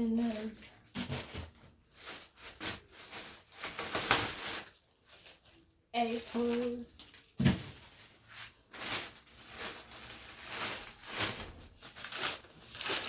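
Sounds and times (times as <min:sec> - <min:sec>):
packaging crinkling and rustling: 0:00.1 - 0:13.0.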